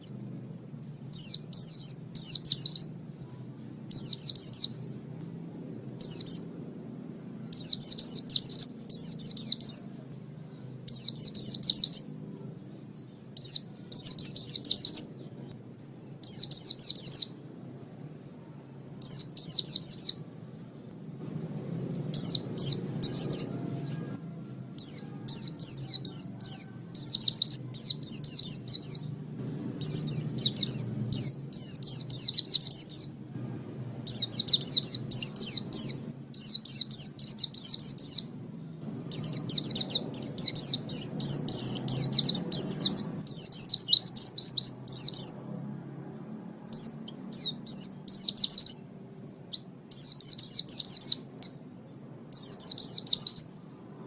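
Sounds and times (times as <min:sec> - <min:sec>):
bird twittering song: 0:00.0 - 0:54.0
faint low rumble: 0:00.0 - 0:54.0.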